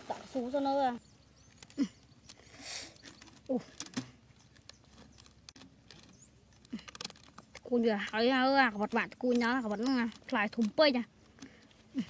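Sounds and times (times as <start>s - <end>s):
rubber bands rustling and clicking: 1.4s - 12.0s.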